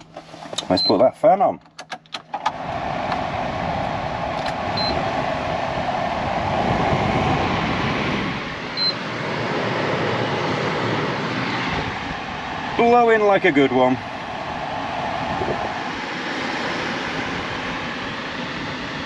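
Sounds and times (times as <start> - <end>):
heater blower fan rushing air: 2.2 - 19.0.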